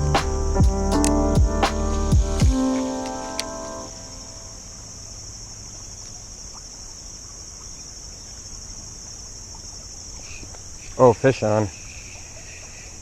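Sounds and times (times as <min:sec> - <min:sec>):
low outdoor hiss: 0:00.0 - 0:13.0
insects chirring: 0:02.3 - 0:13.0.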